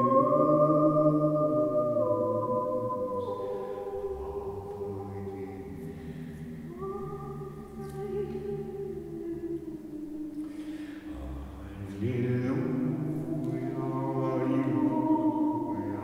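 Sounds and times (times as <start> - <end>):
woman and man singing unaccompanied: 0.0 - 16.0.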